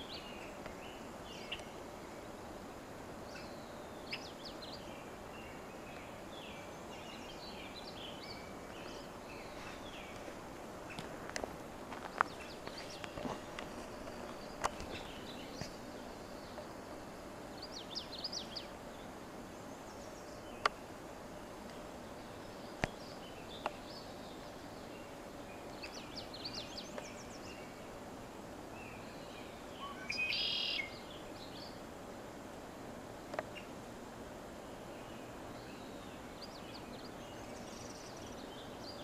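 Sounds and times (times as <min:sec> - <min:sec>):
small birds chirping: 0:00.0 - 0:28.0, 0:28.7 - 0:31.9, 0:34.4 - 0:39.0
steady background hiss: 0:00.0 - 0:39.0.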